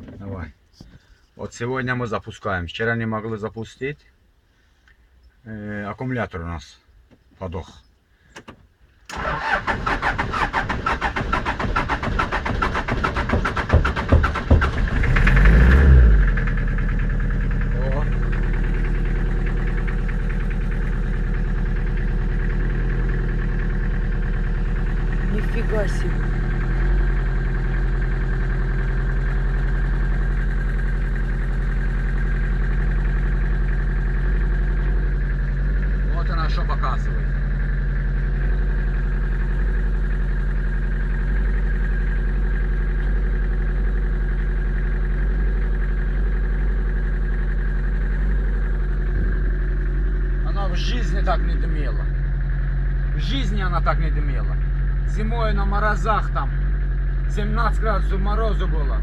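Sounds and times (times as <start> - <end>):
van engine idling: 9.1 - 59.0.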